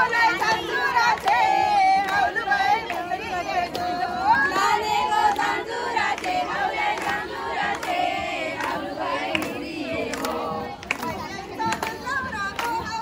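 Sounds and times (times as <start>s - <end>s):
women shouting and singing: 0.0s - 13.0s
hands clapping: 0.4s - 13.0s.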